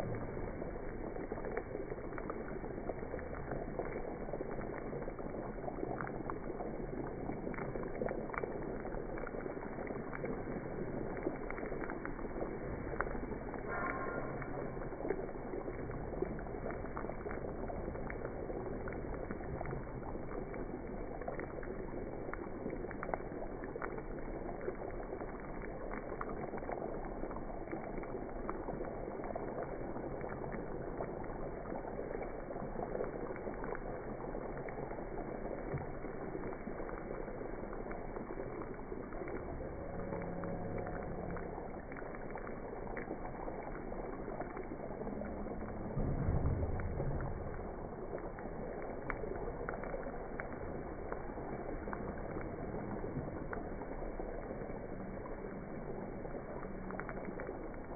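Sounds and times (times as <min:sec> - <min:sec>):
butter and oil sizzling: 0:00.0 - 0:57.9.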